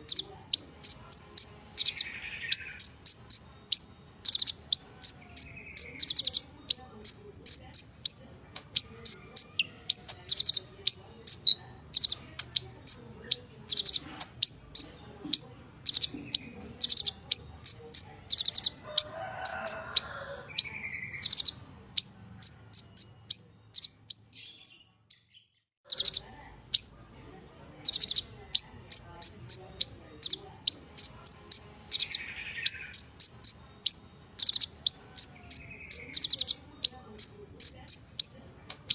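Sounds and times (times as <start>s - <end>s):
sunbird chirping and trilling: 0.0s - 27.1s, 27.8s - 38.9s.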